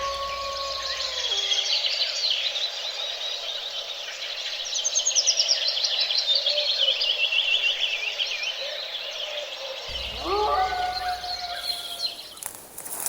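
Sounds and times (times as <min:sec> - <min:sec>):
songbirds singing: 0:00.5 - 0:13.0.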